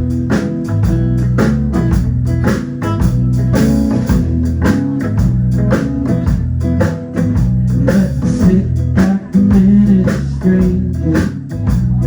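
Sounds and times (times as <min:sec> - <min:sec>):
bass guitar notes: 0:00.0 - 0:12.0
guitar: 0:00.0 - 0:12.0
steady drum beat: 0:00.0 - 0:12.0.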